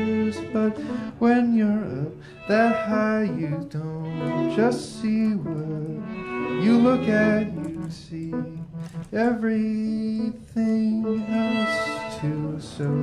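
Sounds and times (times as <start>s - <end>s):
bowed strings chamber music: 0.0s - 13.0s.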